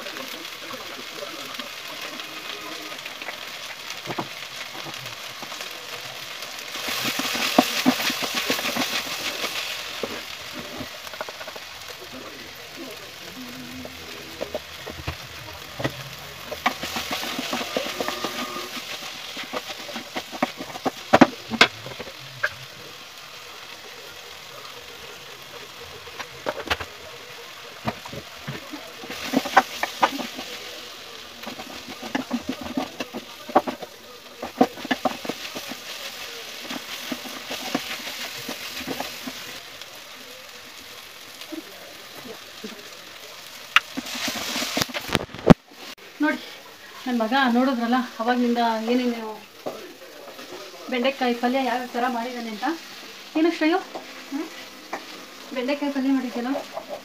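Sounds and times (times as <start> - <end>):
stirring and scraping: 0.0 - 46.0, 46.9 - 57.0
vegetables sizzling in a pan: 0.0 - 57.0.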